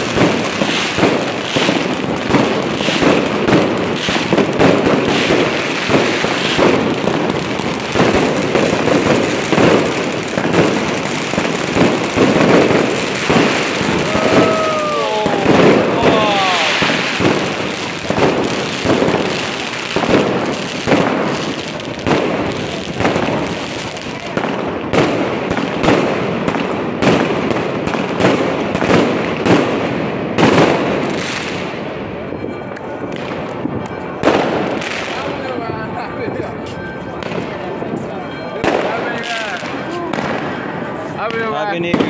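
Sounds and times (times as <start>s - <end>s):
firecrackers crackling: 0.0s - 42.0s
fireworks bursting with loud bangs: 0.0s - 42.0s.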